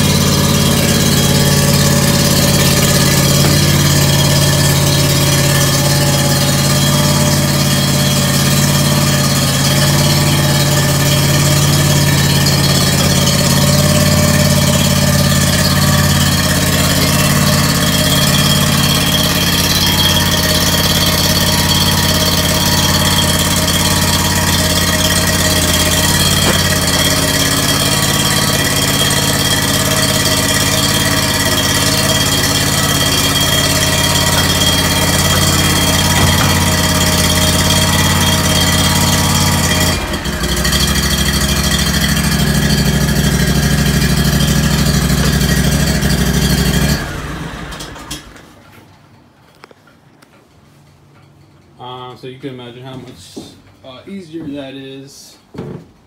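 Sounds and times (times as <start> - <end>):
mower engine running: 0.0 - 48.6.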